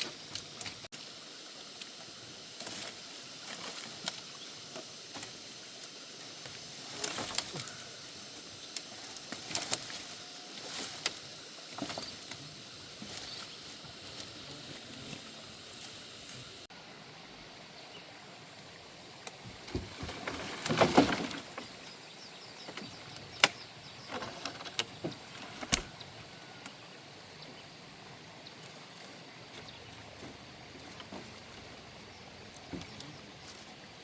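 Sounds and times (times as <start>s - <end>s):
branches rustling and crackling: 0.0s - 34.0s.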